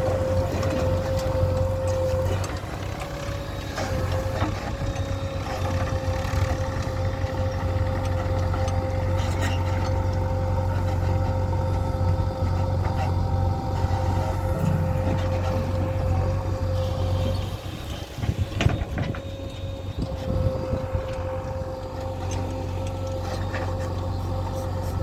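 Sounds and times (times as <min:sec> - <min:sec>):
constant whine: 0:00.0 - 0:25.0
diesel engine humming: 0:00.0 - 0:25.0.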